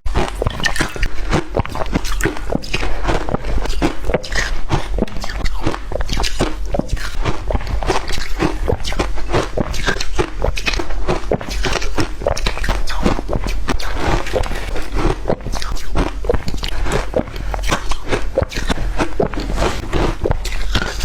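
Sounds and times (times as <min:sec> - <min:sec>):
crunching and chewing ice: 0:00.0 - 0:21.0.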